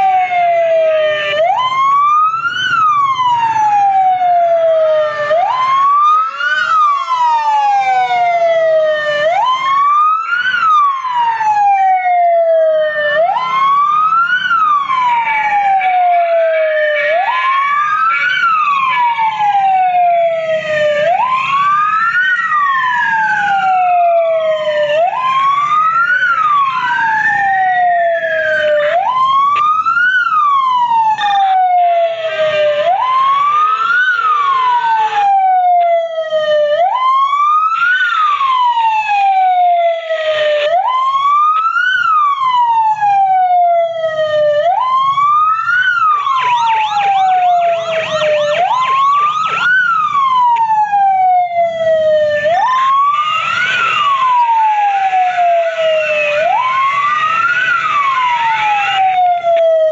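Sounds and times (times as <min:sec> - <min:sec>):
fire engine sirens wailing: 0:00.0 - 0:59.9.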